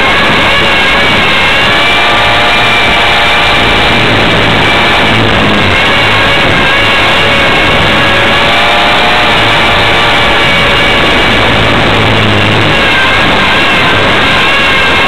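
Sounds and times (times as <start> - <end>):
helicopter motor whine: 0.0 - 15.0
rotor wash and wind: 0.0 - 15.0.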